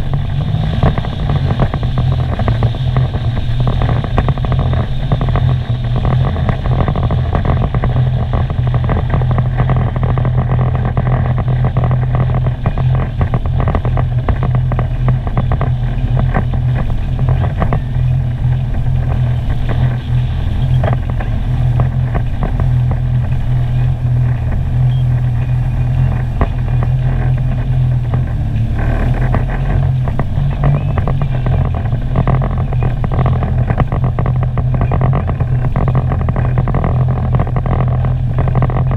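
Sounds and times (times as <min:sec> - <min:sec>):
watercraft engine drone: 0:00.0 - 0:38.9
wind and water rushing: 0:00.0 - 0:38.9.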